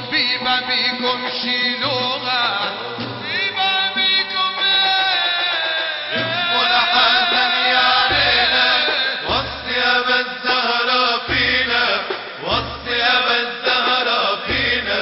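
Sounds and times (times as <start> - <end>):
melismatic devotional singing: 0.0 - 15.0
deep drum beats: 1.8 - 15.0.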